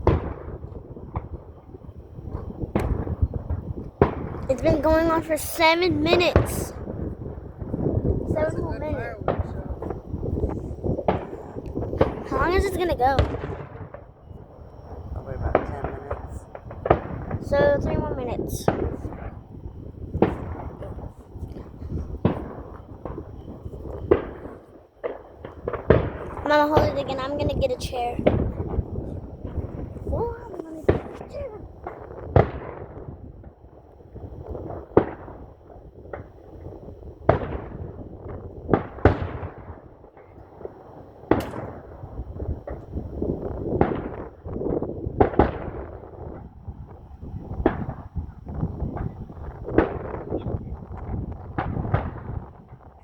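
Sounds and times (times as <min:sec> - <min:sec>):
fireworks bangs: 0:00.0 - 0:53.0
fireworks pops: 0:00.0 - 0:53.0.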